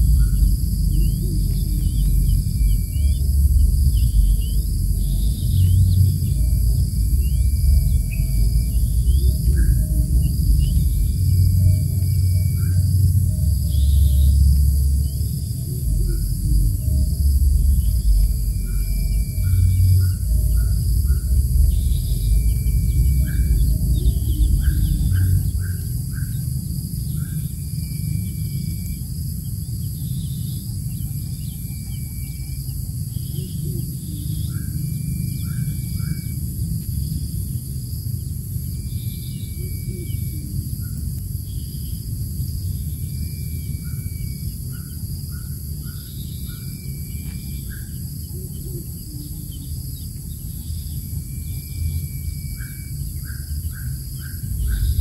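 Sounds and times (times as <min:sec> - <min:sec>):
bird chirps: 0:00.0 - 0:37.3, 0:42.7 - 0:55.0
insect drone: 0:00.0 - 0:55.0
low rumble: 0:00.0 - 0:55.0.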